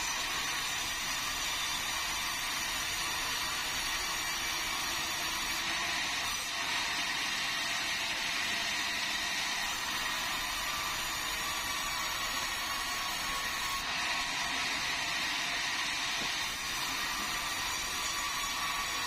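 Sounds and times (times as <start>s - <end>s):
band saw cutting timber: 0.0s - 19.0s.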